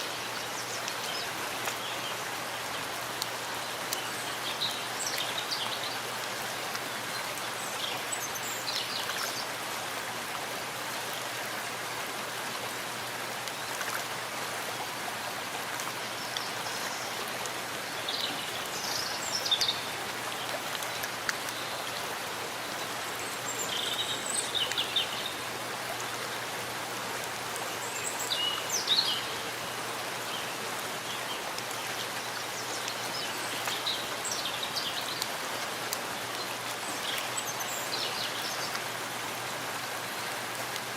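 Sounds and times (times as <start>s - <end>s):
steady rain on leaves: 0.0s - 40.9s.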